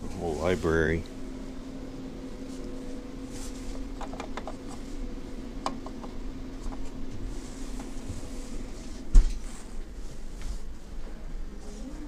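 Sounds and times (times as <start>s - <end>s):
low ventilation hum: 0.0s - 12.0s.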